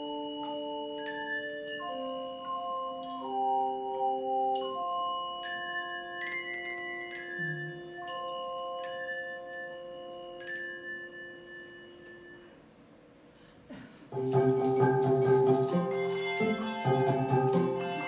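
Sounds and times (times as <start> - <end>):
handbells ringing: 0.0 - 12.6, 14.2 - 18.0.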